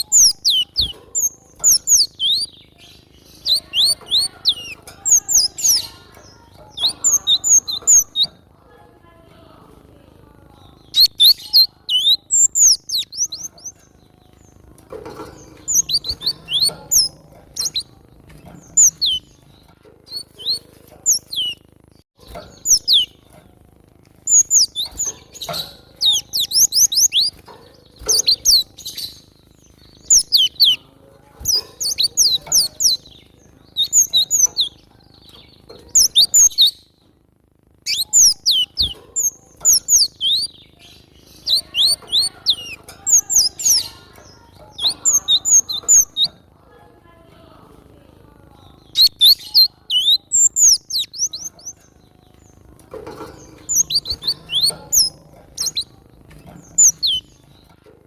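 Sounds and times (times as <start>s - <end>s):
bird chirping: 0.0s - 8.5s, 10.3s - 23.6s, 24.2s - 37.1s, 37.8s - 46.5s, 48.5s - 57.9s.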